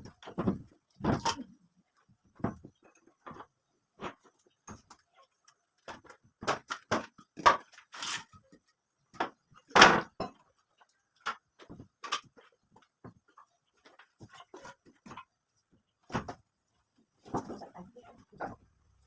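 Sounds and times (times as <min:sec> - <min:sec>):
knocks and clatters of repair work: 0:00.0 - 0:18.7.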